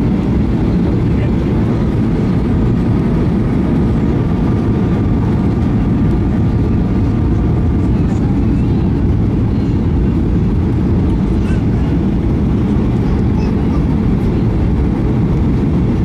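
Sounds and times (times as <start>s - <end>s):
jet engines rumbling: 0.0s - 16.0s
rushing air: 0.0s - 16.0s.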